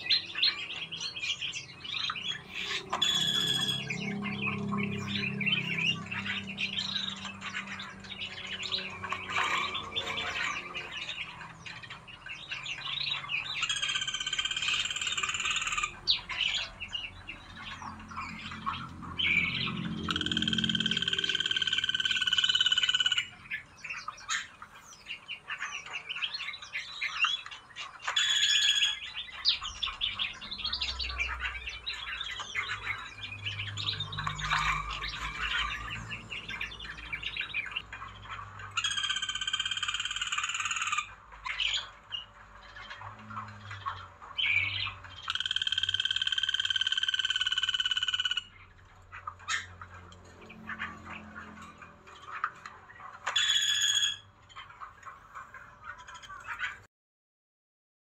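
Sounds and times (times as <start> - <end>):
loud even-pitched bird calls: 0.0 - 56.9
songbirds chirping and whistling: 0.0 - 56.9.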